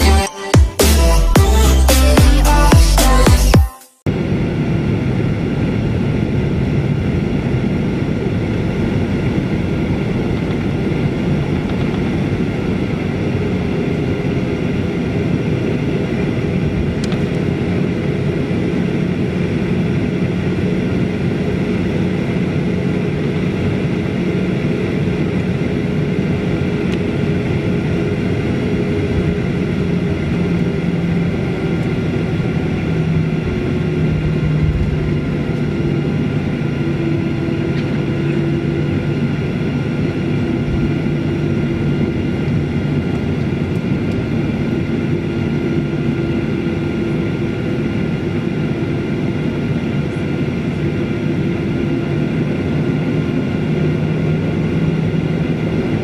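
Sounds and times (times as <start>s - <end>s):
low drone: 0.0s - 56.0s
jet engine hum and whine in cabin: 4.0s - 56.0s.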